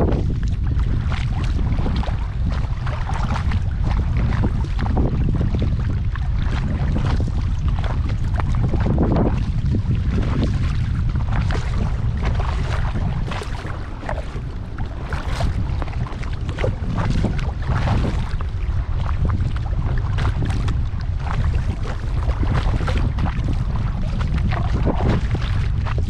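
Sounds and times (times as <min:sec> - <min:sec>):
paddle splashing in water: 0:00.0 - 0:26.0
wind buffeting microphone: 0:00.0 - 0:26.0.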